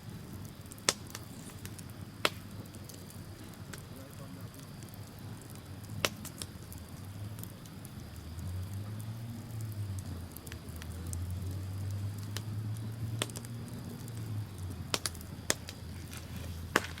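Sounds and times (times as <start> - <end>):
bonfire crackling and popping: 0.0 - 17.0
steady low rumble: 0.0 - 17.0.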